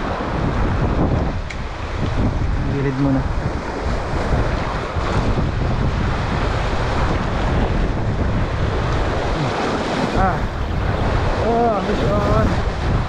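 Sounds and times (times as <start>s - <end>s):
waves on the shore: 0.0s - 13.0s
wind buffeting microphone: 0.0s - 13.0s.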